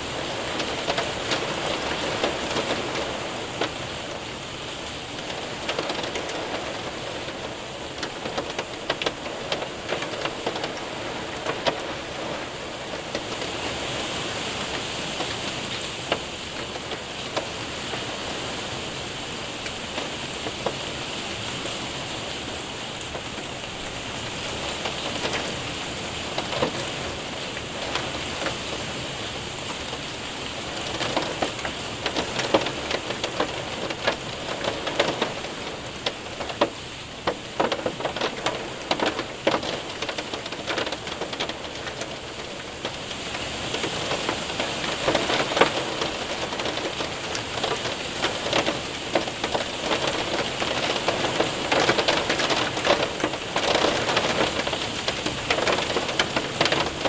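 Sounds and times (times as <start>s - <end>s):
hailstones ticking on window: 0.0s - 18.8s, 19.6s - 21.6s, 22.4s - 57.0s
rain hissing: 0.0s - 57.0s.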